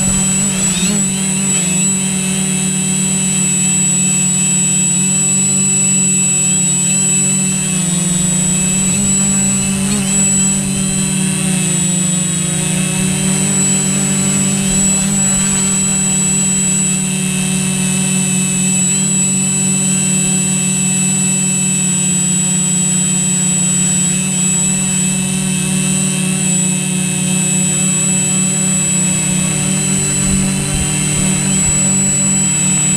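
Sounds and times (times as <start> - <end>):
drone propellers whining: 0.0 - 32.9.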